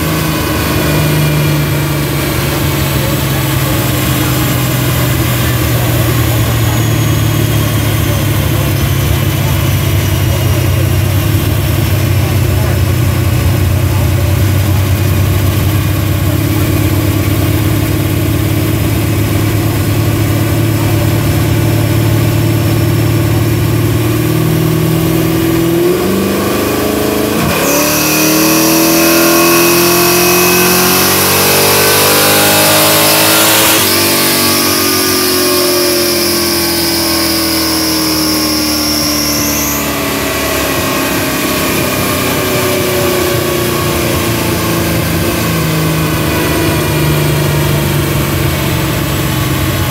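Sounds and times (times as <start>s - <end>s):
car engine revving: 0.0s - 49.9s
high whine: 0.0s - 49.9s.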